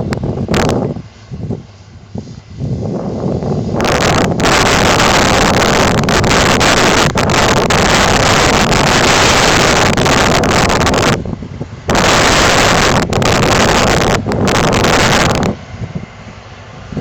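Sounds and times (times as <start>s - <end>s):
tractor diesel engine running: 0.0s - 17.0s
wind buffeting microphone: 0.0s - 17.0s.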